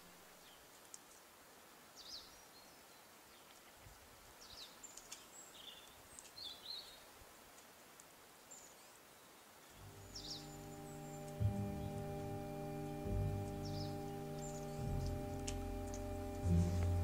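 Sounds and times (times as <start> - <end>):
small birds chirping: 1.9 - 7.1, 8.4 - 17.0.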